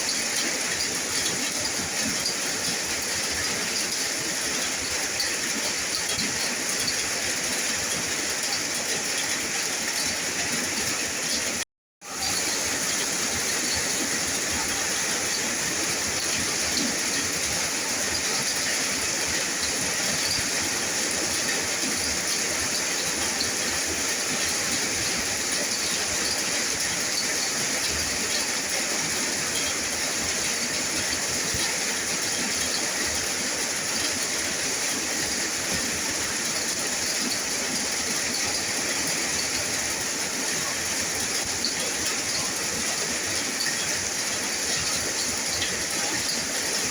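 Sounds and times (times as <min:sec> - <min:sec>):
rain falling: 0:00.0 - 0:46.9.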